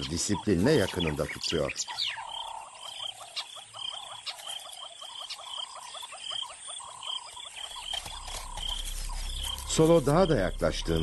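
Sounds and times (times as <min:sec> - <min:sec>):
frogs chirping: 0:00.0 - 0:11.0.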